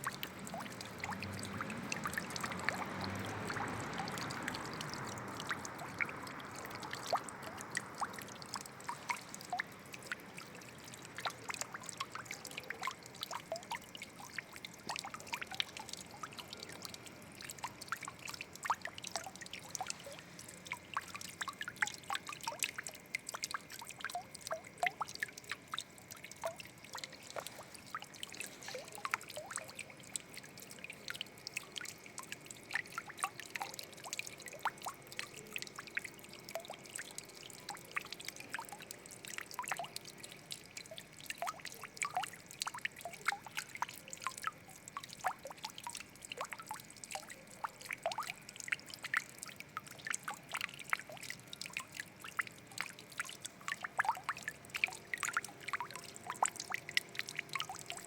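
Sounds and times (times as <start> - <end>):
water drips and plinks: 0.0 - 58.0
water trickling and splashing: 0.0 - 58.0.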